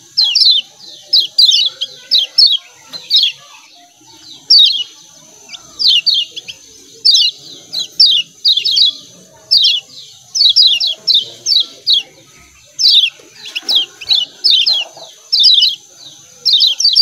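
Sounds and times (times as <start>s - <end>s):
birds chirping rapidly: 0.0s - 17.0s.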